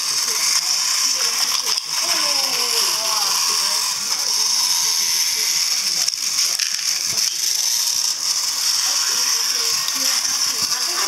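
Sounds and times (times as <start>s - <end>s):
toy train motor whining: 0.0s - 11.0s.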